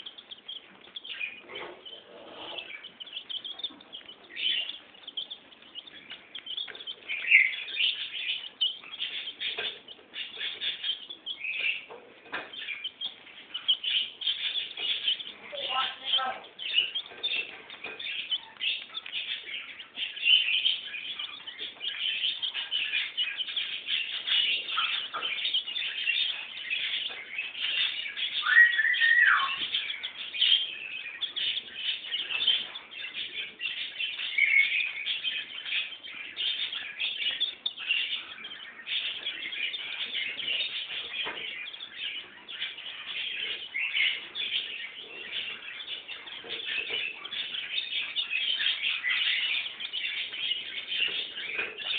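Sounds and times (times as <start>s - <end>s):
chicks peeping: 0.0s - 51.9s.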